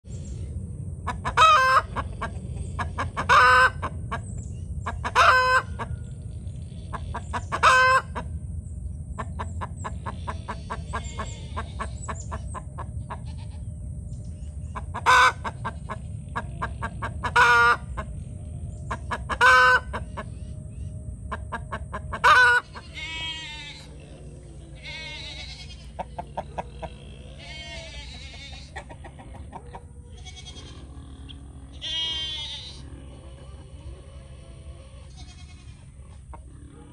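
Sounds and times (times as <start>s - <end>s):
hens clucking: 1.0s - 8.5s, 9.1s - 13.5s, 14.6s - 20.4s, 21.2s - 36.9s
rooster calling: 1.1s - 4.2s, 4.9s - 6.0s, 6.9s - 8.4s, 9.2s - 13.7s, 14.8s - 18.2s, 18.9s - 20.4s, 21.3s - 36.9s.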